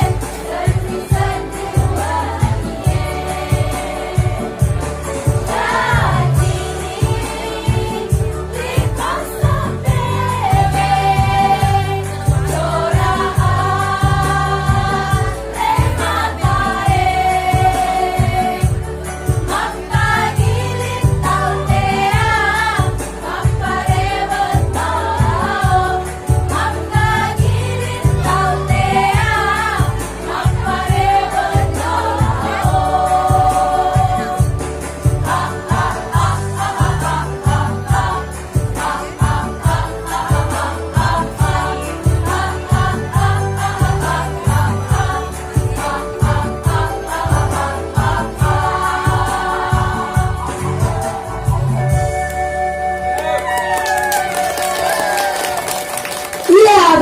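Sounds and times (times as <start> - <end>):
women's choir singing: 0.0 - 51.9
instrumental accompaniment with beat: 0.0 - 57.0.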